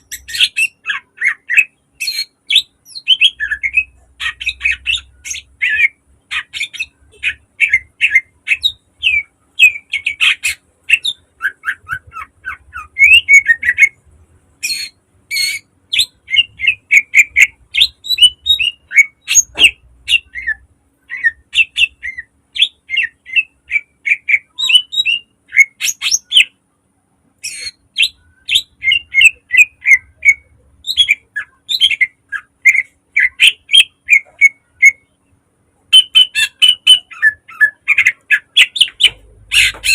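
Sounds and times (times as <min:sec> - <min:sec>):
bird chattering song: 0:00.0 - 0:14.0, 0:14.6 - 0:26.6, 0:27.4 - 0:39.9.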